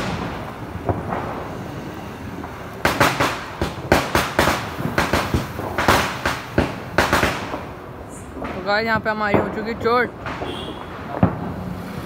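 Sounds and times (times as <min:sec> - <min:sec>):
firecrackers bursting: 0:00.0 - 0:12.0.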